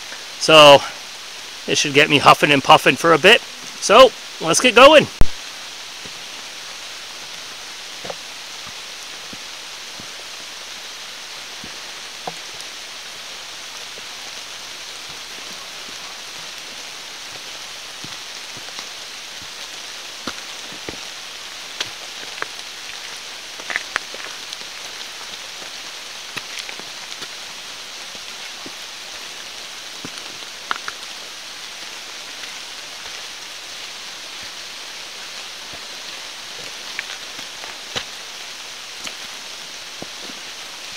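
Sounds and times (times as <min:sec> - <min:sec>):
steady rain in forest: 0:00.0 - 0:40.9.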